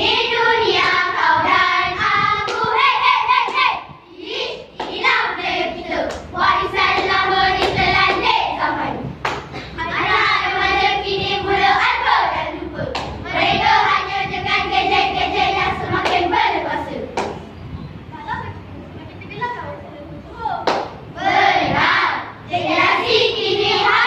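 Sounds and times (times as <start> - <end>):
children chanting and singing: 0.0 - 17.6, 18.2 - 24.0.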